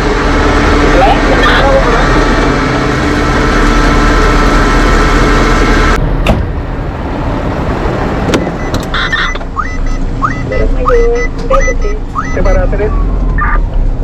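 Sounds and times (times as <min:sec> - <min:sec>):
road noise: 0:00.0 - 0:14.0
vehicle engine running: 0:00.0 - 0:14.0.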